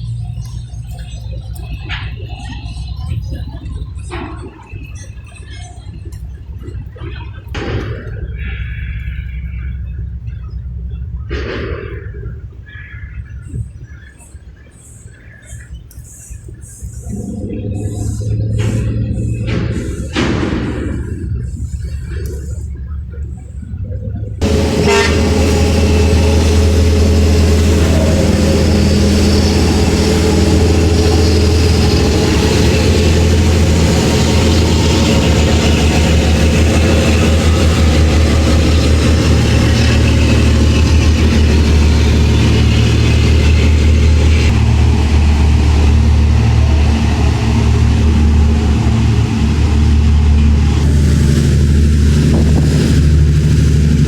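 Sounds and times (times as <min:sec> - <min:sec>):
engine rumble with low hum: 0:00.0 - 0:54.0.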